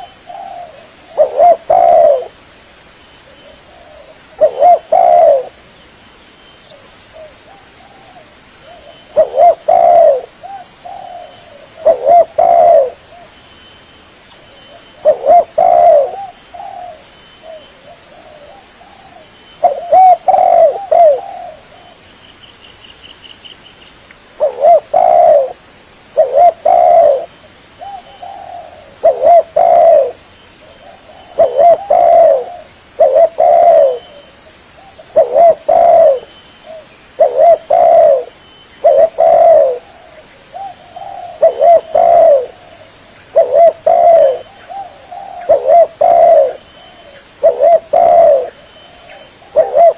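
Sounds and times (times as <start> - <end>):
dove cooing: 0.0 - 2.4, 3.4 - 5.7, 6.7 - 13.3, 14.7 - 22.0, 24.4 - 49.9.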